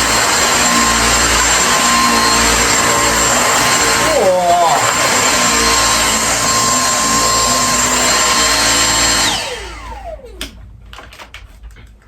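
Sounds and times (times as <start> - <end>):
vacuum cleaner whining: 0.0 - 10.6.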